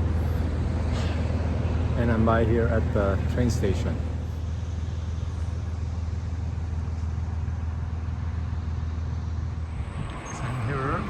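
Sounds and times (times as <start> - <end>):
urban background noise: 0.0 - 11.0
vehicle engine idling: 0.0 - 11.0.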